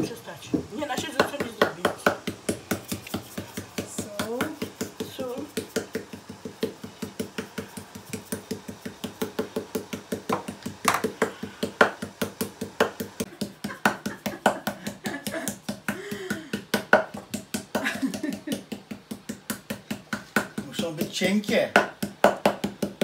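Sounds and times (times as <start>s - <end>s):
meat mallet pounding on board: 0.0s - 23.0s.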